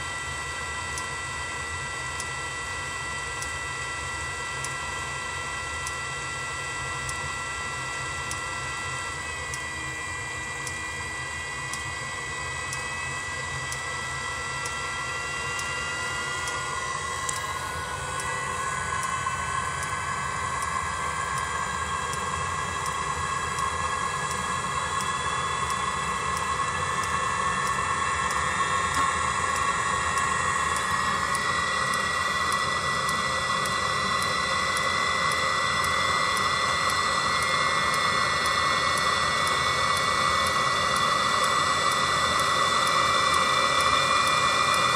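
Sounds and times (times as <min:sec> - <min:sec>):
blower whining: 0:00.0 - 0:44.9
pump light ticking: 0:00.0 - 0:44.9.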